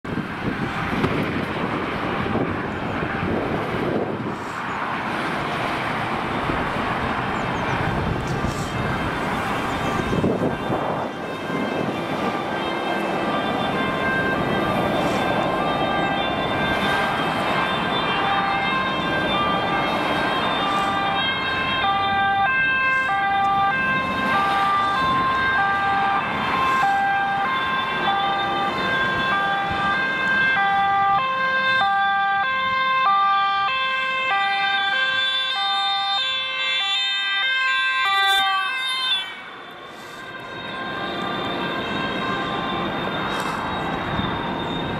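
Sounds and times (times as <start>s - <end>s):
traffic noise: 0.0s - 44.9s
two-tone sirens: 0.1s - 44.9s
lower-pitched two-tone siren: 7.7s - 44.9s.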